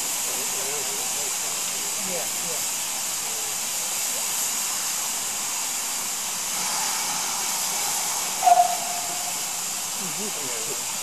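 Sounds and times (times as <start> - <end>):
steam hissing: 0.0 - 11.0
steam locomotive moving: 0.0 - 11.0.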